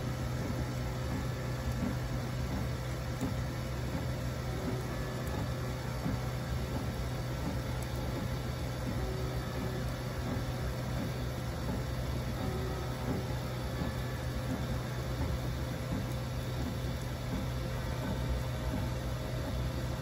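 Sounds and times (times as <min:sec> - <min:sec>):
faint steady whines: 0:00.0 - 0:20.0
printer fans and motors humming: 0:00.0 - 0:20.0.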